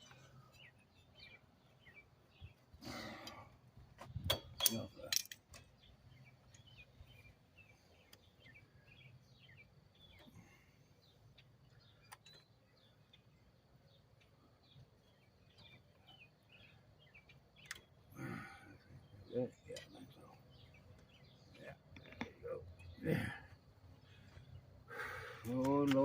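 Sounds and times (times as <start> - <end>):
bird chirps: 0.0 - 3.4, 4.2 - 26.0.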